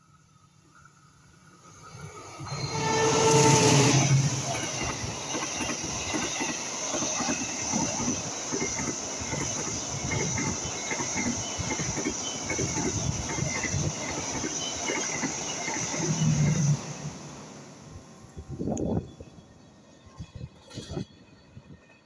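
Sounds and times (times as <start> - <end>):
diesel locomotive passing: 0.6 - 22.0.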